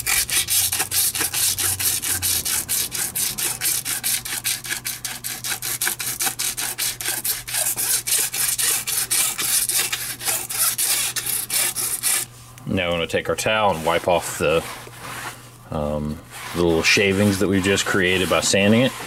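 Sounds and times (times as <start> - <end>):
sandpaper scrubbing rubber: 0.0 - 12.3, 13.7 - 15.4, 16.3 - 19.0.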